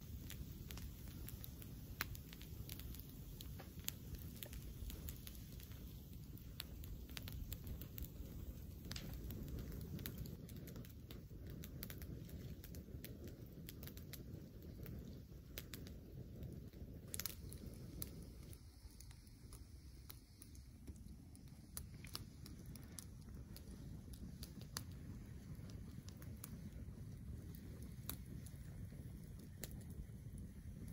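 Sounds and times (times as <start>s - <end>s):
campfire crackling and popping: 0.0s - 30.9s
low steady rumble: 0.0s - 30.9s.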